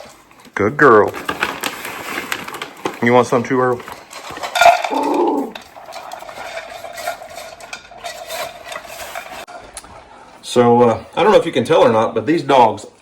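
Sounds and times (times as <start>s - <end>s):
dogs chewing: 0.0s - 10.4s.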